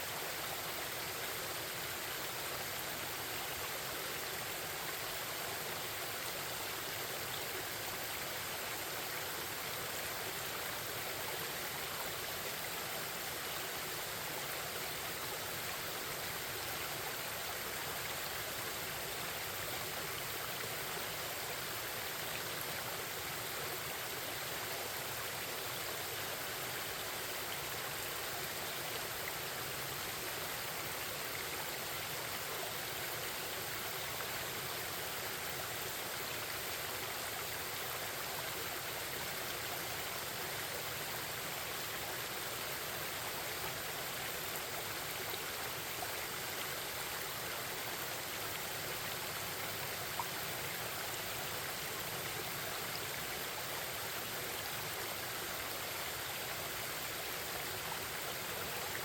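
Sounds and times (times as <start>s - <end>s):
forest stream babbling: 0.0s - 59.0s.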